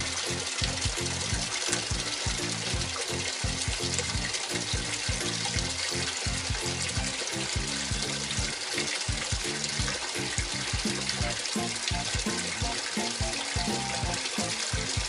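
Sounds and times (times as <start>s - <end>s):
rhythmic background music: 0.0s - 15.0s
water running into washing machine: 0.0s - 15.0s.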